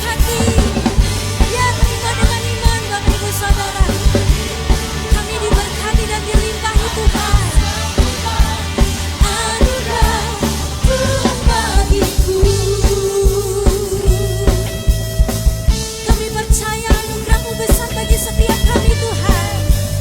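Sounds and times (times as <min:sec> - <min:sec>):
drums keeping a steady beat: 0:00.0 - 0:20.0
worship band playing: 0:00.0 - 0:20.0.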